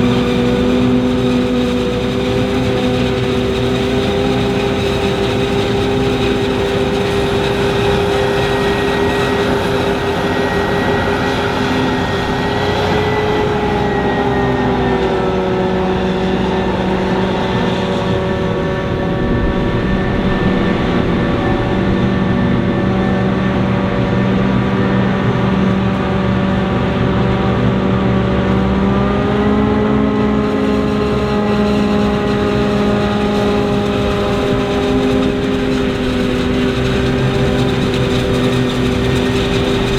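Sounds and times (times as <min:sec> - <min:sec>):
diesel farm machinery droning: 0:00.0 - 0:39.9.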